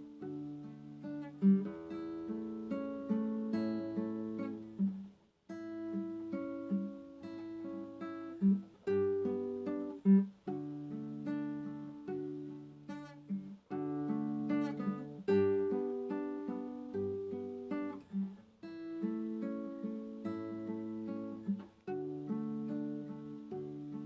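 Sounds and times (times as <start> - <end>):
acoustic guitar plucking: 0.0 - 24.0.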